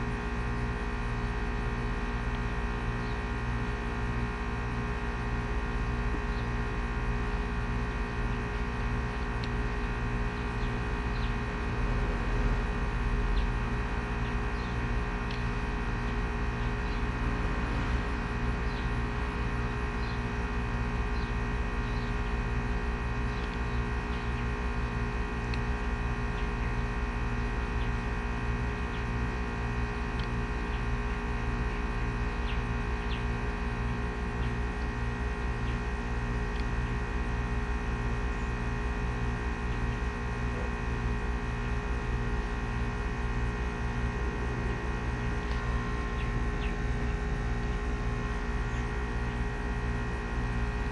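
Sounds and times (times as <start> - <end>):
steady electrical hum: 0.0 - 50.9.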